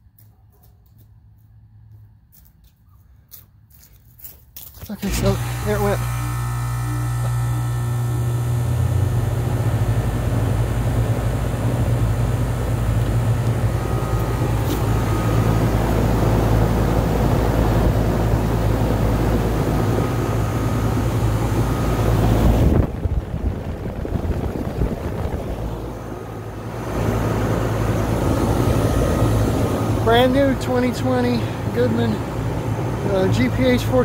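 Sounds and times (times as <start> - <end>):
compressor hum: 4.8 - 34.0
fan airy rush: 5.0 - 34.0.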